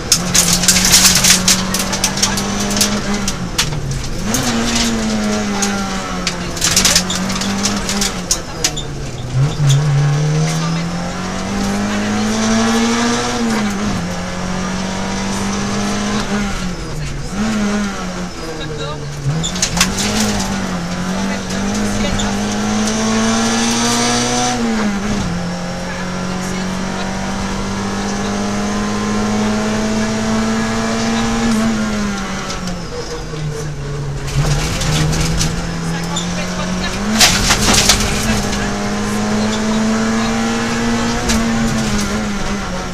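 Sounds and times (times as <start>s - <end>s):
car engine revving high: 0.0s - 42.9s.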